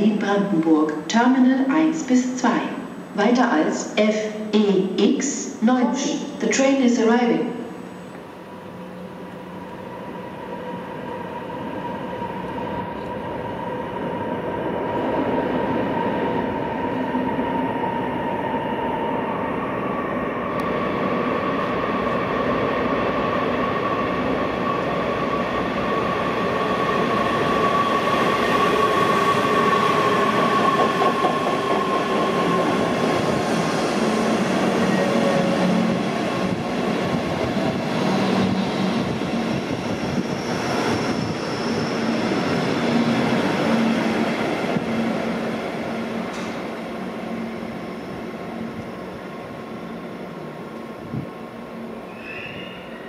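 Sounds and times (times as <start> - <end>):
train rolling noise: 7.4 - 53.0.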